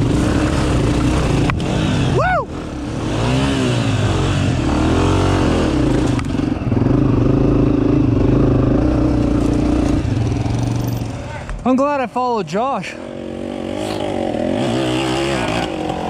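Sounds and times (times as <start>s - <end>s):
dirt bike engine revving: 0.0s - 11.3s, 12.9s - 16.0s.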